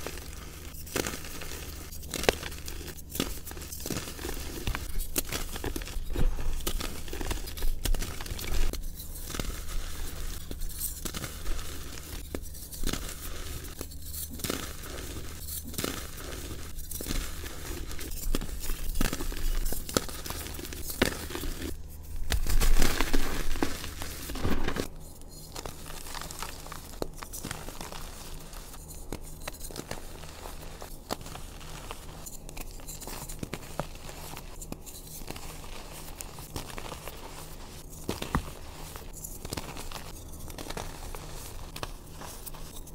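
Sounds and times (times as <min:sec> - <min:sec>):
chalk crackling and crunching: 0:00.0 - 0:42.9.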